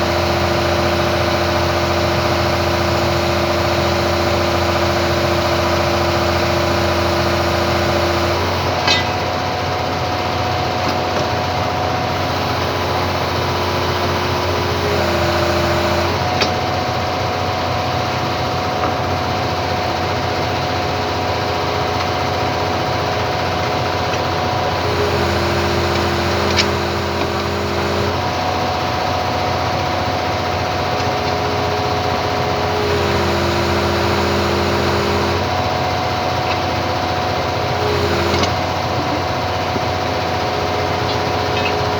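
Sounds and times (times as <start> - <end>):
excavator diesel engine whining: 0.0 - 41.9.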